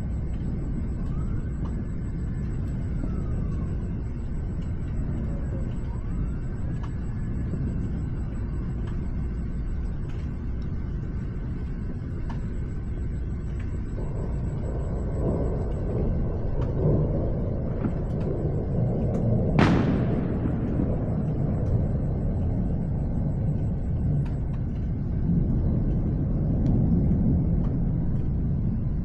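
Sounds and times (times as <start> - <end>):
thunderstorm rumbling: 0.0 - 29.0.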